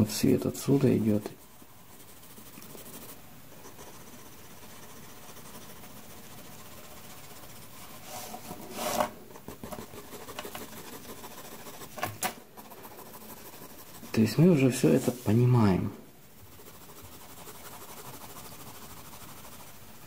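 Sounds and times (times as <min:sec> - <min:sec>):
pencil scratching on paper: 0:00.0 - 0:15.6, 0:16.4 - 0:19.9.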